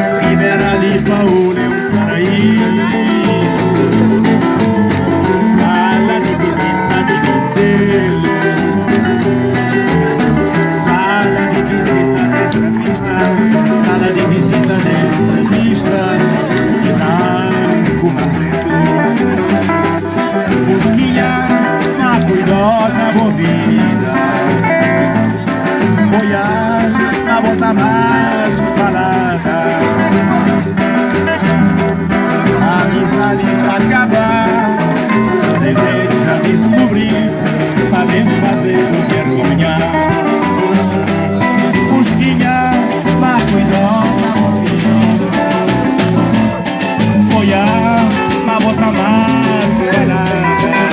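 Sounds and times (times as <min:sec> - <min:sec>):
band music with guitar: 0:00.0 - 0:50.9.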